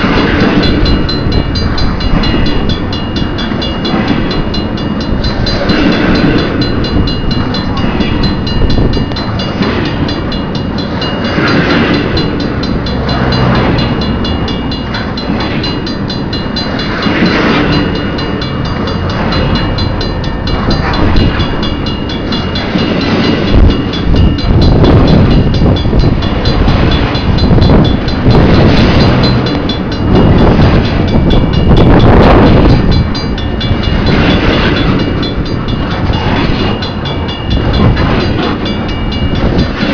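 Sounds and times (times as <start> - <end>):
steady high tones: 0.0 - 39.9
train wheels rumbling on rails: 0.0 - 39.9.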